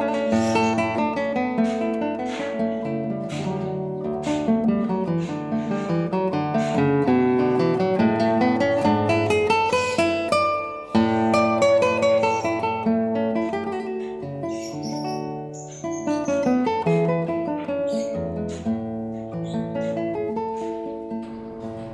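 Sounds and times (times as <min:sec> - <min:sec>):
acoustic guitar strumming: 0:00.0 - 0:21.9.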